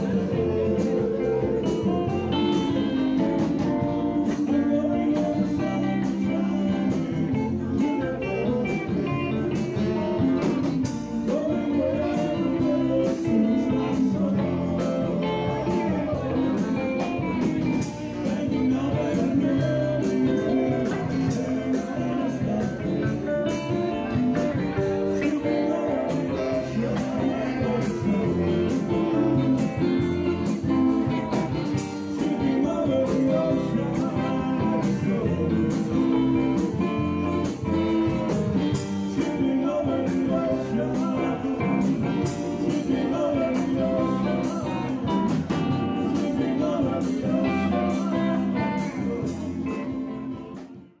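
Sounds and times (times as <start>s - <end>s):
steady drum beat: 0.0s - 50.8s
strummed guitars: 0.0s - 51.0s.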